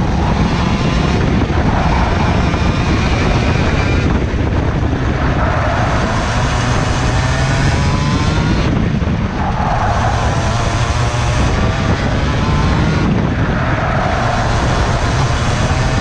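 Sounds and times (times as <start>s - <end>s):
kart engine revving: 0.0s - 16.0s.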